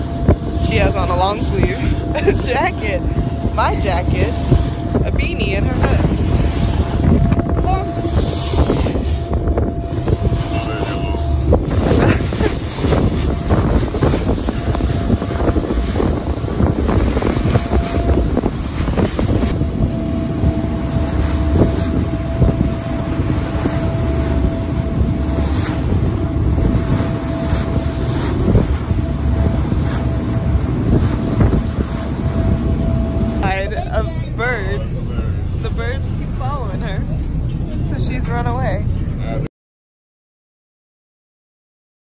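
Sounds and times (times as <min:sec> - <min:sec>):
boat engine rumbling: 0:00.0 - 0:39.5
water rushing along hull: 0:00.0 - 0:39.5
wind buffeting microphone: 0:00.0 - 0:39.5.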